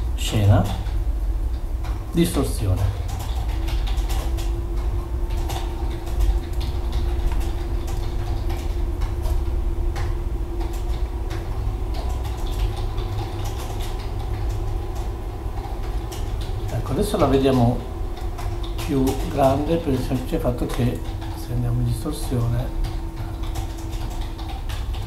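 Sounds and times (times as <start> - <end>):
low hum and rumble: 0.0 - 25.0.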